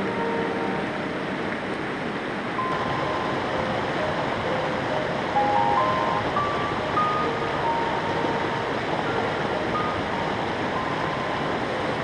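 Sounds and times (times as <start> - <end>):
creek running over rapids: 0.0 - 12.0
slow background music: 0.0 - 12.0.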